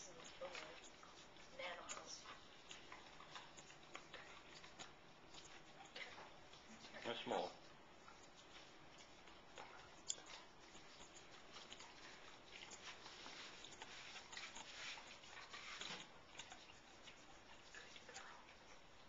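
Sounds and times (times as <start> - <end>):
dog teeth gnawing bone: 0.1 - 18.8.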